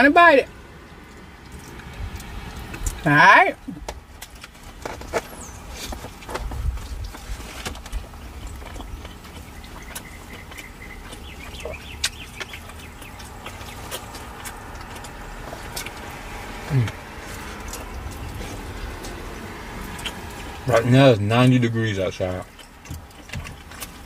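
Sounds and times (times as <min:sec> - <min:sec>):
chewing and mouth smacking: 0:00.6 - 0:24.0.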